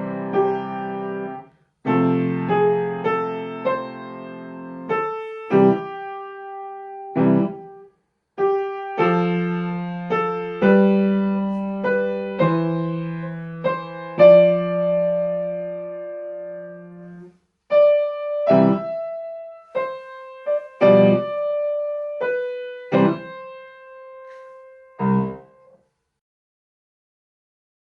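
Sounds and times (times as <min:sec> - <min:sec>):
piano playing simple piece: 0:00.0 - 0:25.8.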